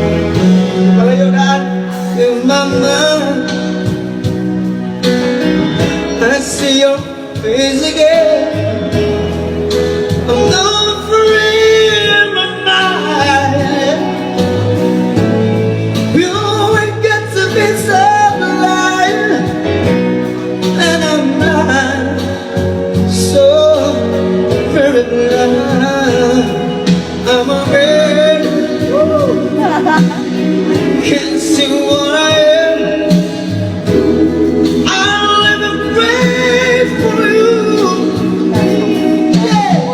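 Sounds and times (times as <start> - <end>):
instrumental accompaniment: 0.0 - 39.9
man singing: 0.0 - 39.9.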